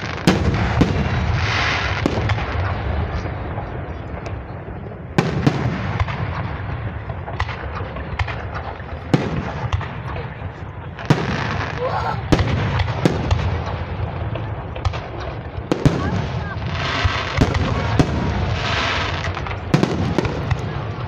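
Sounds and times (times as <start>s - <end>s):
fireworks booming: 0.0s - 21.0s
fireworks rumble and crackle: 0.0s - 21.0s.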